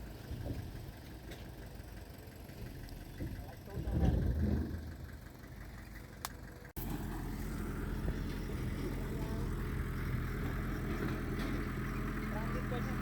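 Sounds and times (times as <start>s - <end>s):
heavy machinery diesel engine: 0.0s - 13.0s.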